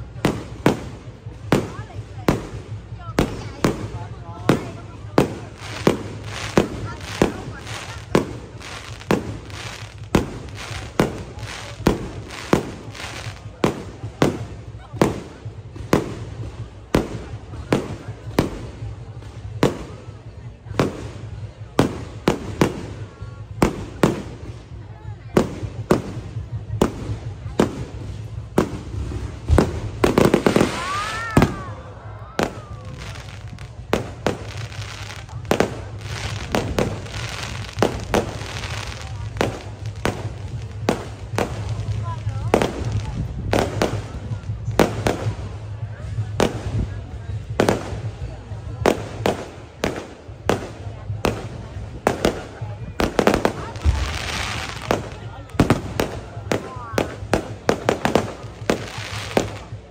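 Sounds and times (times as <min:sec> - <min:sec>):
fireworks bangs echoing: 0:00.0 - 0:59.9.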